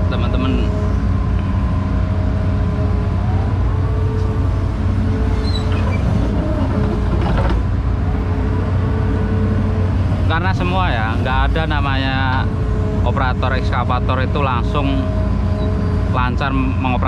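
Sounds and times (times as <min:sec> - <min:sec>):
hydraulic whine: 0:00.0 - 0:16.9
excavator diesel engine running: 0:00.0 - 0:17.0.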